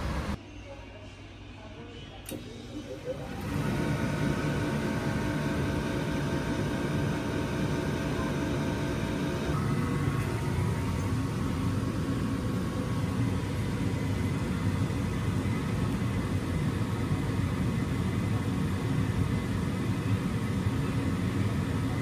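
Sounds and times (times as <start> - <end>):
furnace motor humming: 0.0 - 0.4, 2.2 - 22.0.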